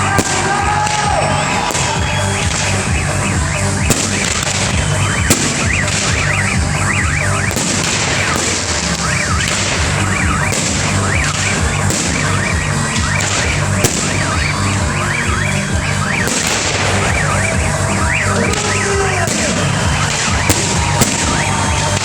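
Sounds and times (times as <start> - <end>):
firework whistles: 0.0 - 22.0
sharp firework pops: 0.0 - 22.0
pulsing low rumble: 1.2 - 22.0.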